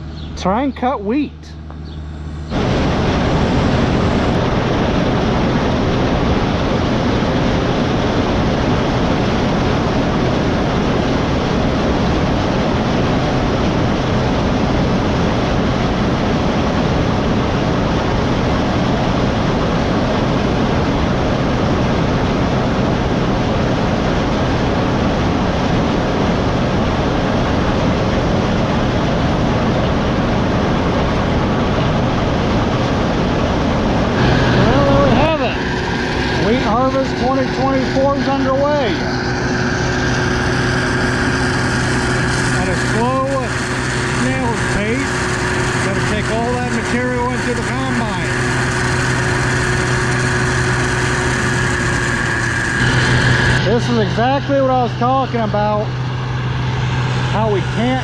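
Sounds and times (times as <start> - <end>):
farm machinery engine drone: 0.0 - 58.0.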